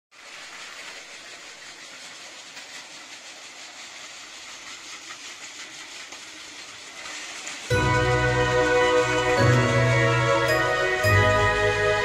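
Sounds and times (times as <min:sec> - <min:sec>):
toy train motor whirring: 0:00.1 - 0:12.0
wheels clicking over track joints: 0:00.1 - 0:12.0.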